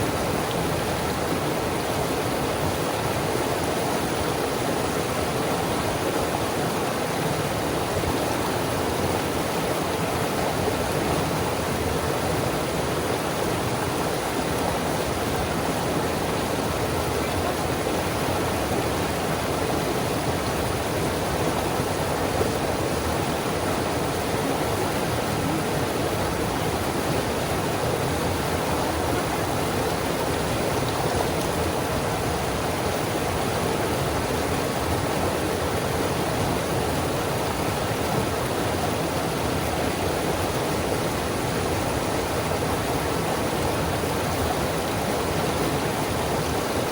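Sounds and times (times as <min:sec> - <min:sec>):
river rushing over rapids: 0:00.0 - 0:46.9.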